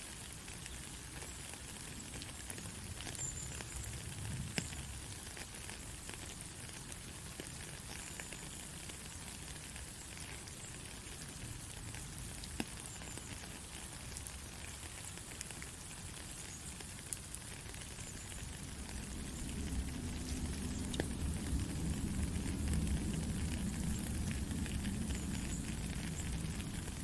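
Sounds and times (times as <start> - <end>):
rain falling: 0.0 - 27.0
raindrops ticking: 0.1 - 27.0.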